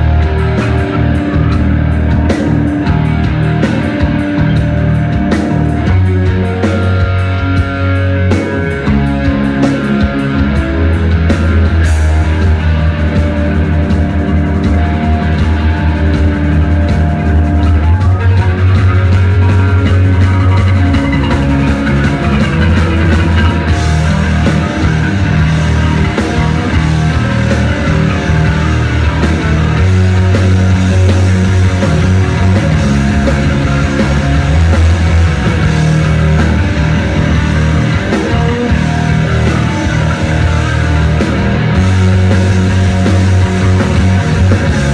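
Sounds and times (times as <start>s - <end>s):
bass guitar: 0.0s - 44.9s
distorted electric guitars: 0.0s - 44.9s
drum kit: 0.0s - 44.9s.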